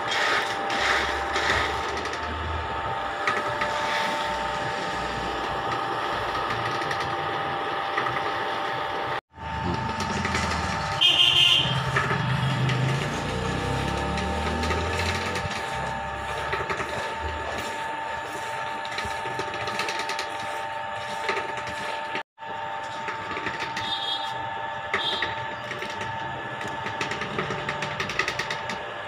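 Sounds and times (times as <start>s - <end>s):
oil press grating hum: 0.0s - 29.0s.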